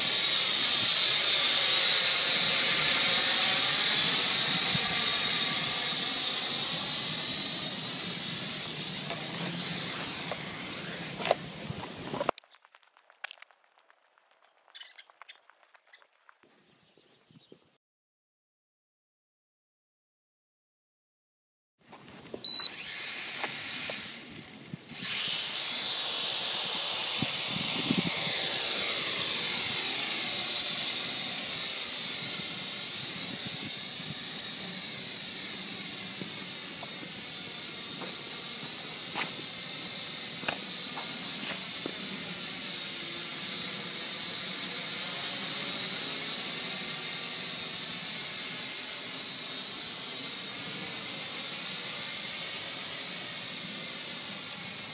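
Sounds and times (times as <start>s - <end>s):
quadcopter propellers whining: 0.0s - 12.4s, 22.4s - 54.9s.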